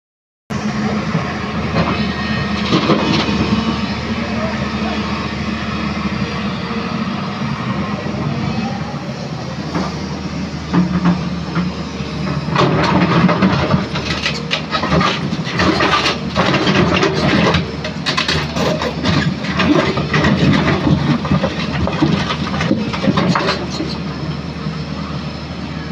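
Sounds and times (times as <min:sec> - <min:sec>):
excavator engine running: 0:00.5 - 0:25.9.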